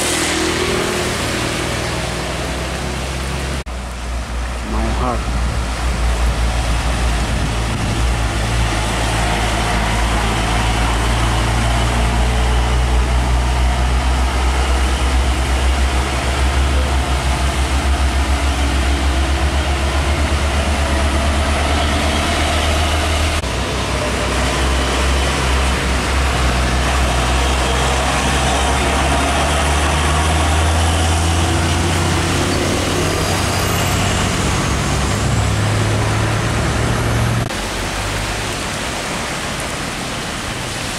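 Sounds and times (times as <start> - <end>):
falling rain: 0.0 - 40.9
truck diesel engine rumbling: 0.0 - 40.9
tyres hissing on wet road: 0.0 - 40.9.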